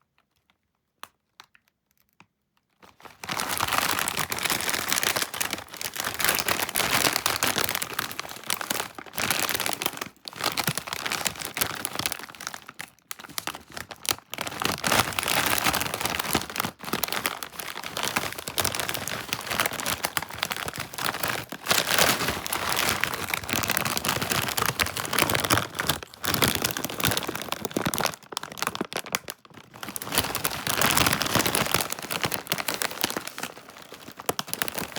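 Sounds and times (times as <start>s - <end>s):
plastic chip bag crinkling: 2.6s - 34.9s.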